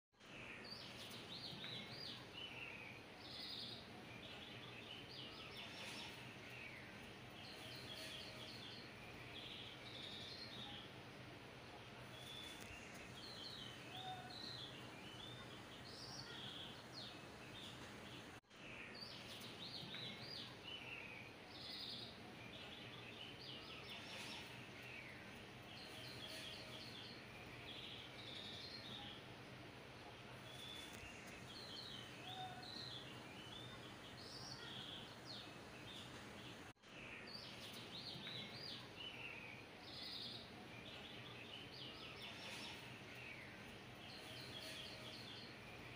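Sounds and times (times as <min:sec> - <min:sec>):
small birds chirping: 0:00.2 - 0:45.9.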